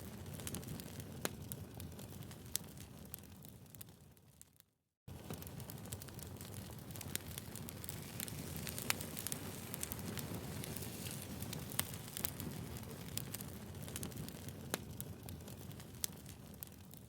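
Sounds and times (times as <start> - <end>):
fire low rumble: 0.0 - 4.2, 5.1 - 17.0
logs crackling and popping: 0.0 - 4.2, 5.1 - 17.0.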